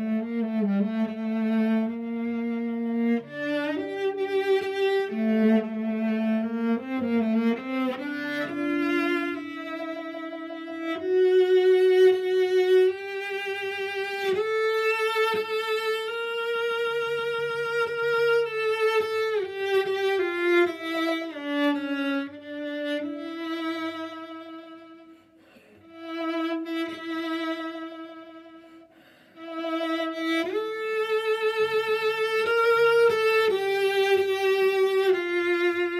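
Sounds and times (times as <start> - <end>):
solo cello melody: 0.0 - 35.9.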